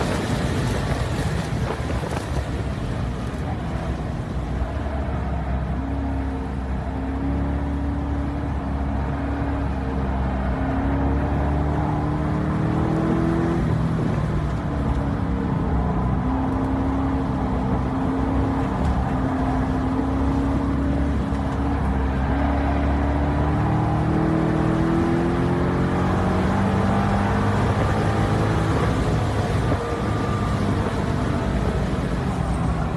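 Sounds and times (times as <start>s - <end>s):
sports car engine accelerating: 0.0s - 32.9s.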